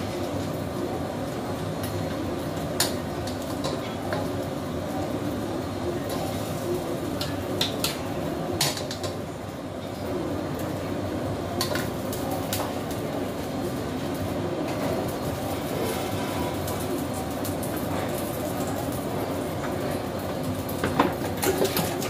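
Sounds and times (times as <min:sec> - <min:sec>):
low kitchen rumble: 0:00.0 - 0:22.0.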